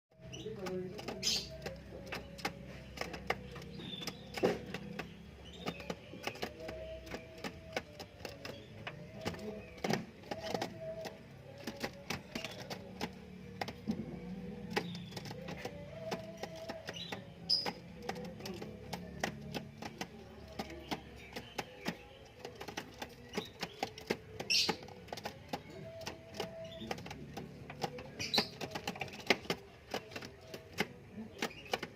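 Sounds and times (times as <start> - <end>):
chicks scratchy clicking and rustling: 0.2 - 31.9.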